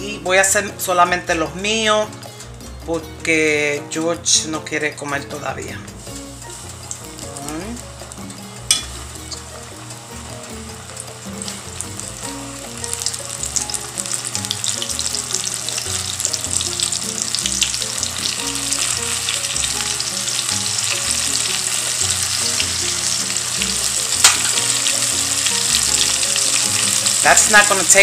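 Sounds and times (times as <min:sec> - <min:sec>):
shrimp deep-frying in oil: 0:04.6 - 0:28.0.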